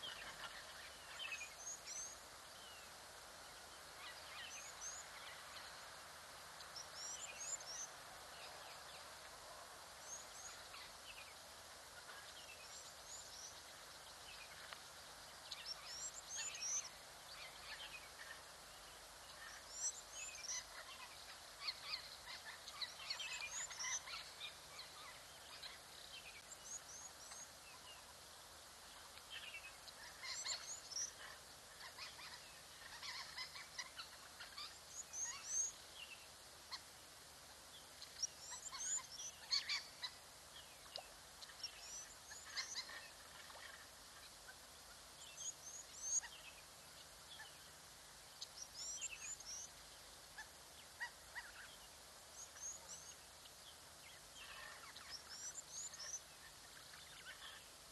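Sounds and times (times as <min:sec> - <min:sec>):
faint background hiss: 0:00.0 - 0:57.9.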